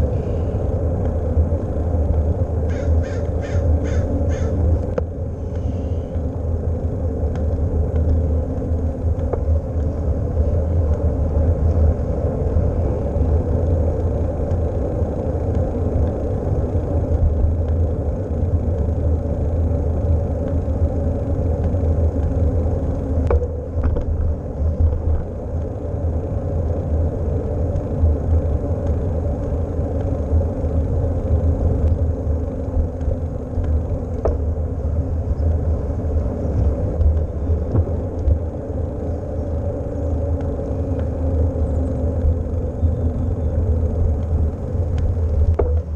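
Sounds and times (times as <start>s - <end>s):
faint bike clicks: 0.0s - 45.9s
tyre and road noise: 0.0s - 45.9s
wind rumbling on microphone: 0.0s - 45.9s.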